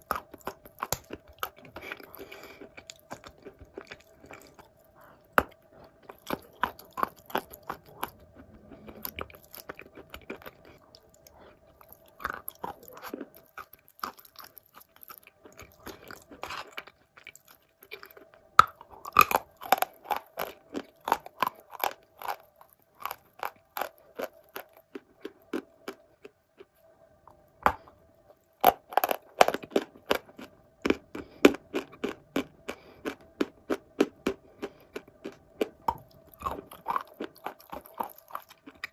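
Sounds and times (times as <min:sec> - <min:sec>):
chewing wet clay crunching: 0:00.0 - 0:26.7, 0:28.6 - 0:38.9
faint steady hum: 0:00.0 - 0:38.9.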